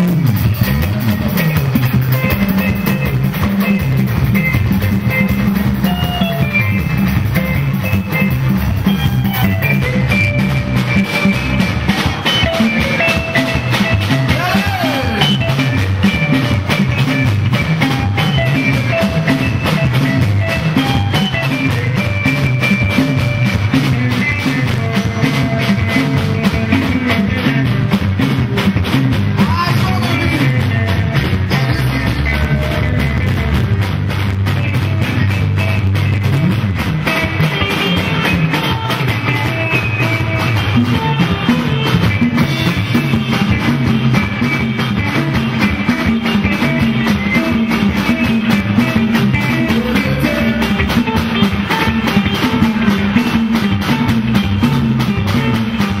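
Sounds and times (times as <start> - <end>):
drum kit beat: 0.0 - 56.0
electric guitars playing: 0.0 - 56.0.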